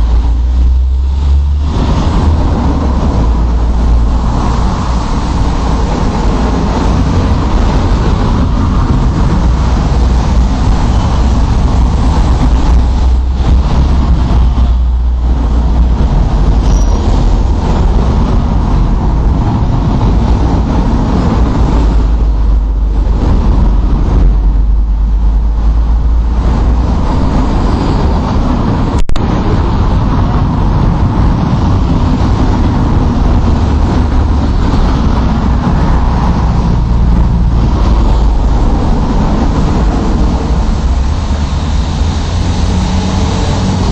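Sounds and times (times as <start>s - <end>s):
low engine rumble: 0.0s - 43.9s.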